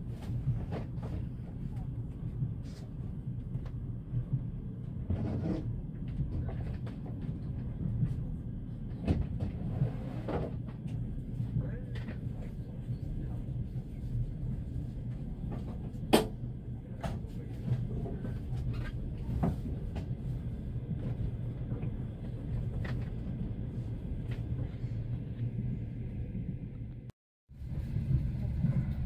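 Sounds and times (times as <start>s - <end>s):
train carriage rumble: 0.0s - 29.0s.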